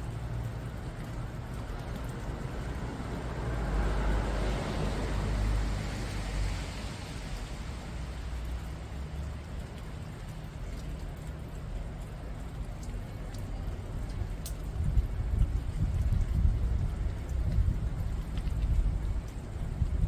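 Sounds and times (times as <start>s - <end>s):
rain on foliage: 0.0s - 20.0s.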